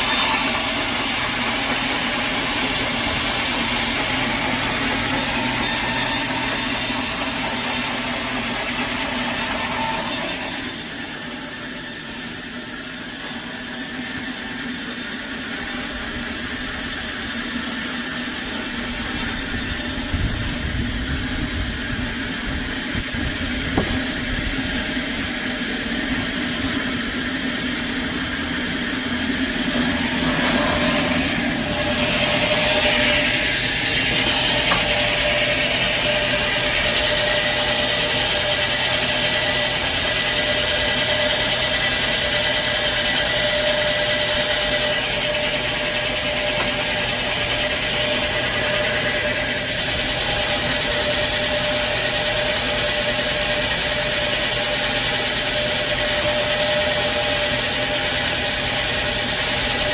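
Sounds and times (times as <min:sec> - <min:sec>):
steady machine hum: 0:00.0 - 0:09.2, 0:10.0 - 0:59.9
saw cutting a log: 0:00.0 - 0:59.9.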